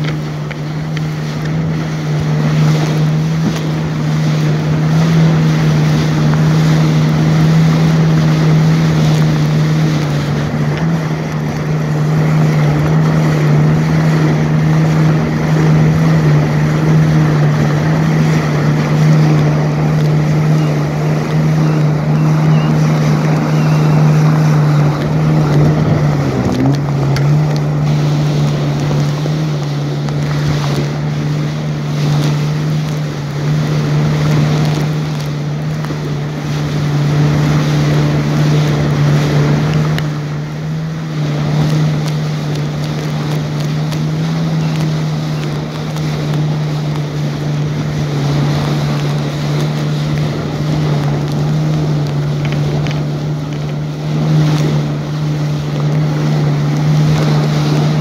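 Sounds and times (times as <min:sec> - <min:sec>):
jet ski engine running: 0:00.0 - 0:58.0
rushing water: 0:00.0 - 0:58.0
wind on microphone: 0:00.0 - 0:58.0.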